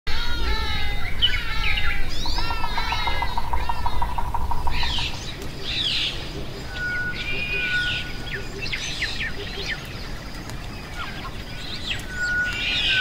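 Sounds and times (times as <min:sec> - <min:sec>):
birds calling and chirping: 0:00.1 - 0:13.0.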